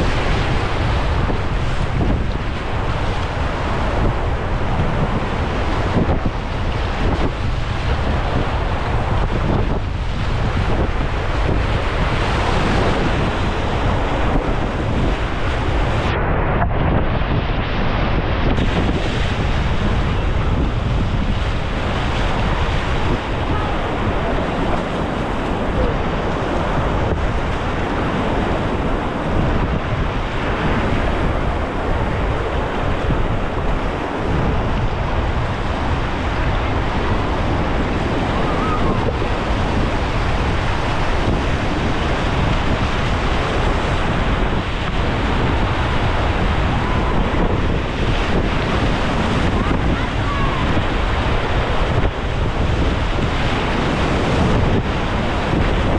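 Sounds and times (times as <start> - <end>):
whitewater rushing and splashing: 0.0 - 55.9
wind buffeting microphone: 0.0 - 55.9.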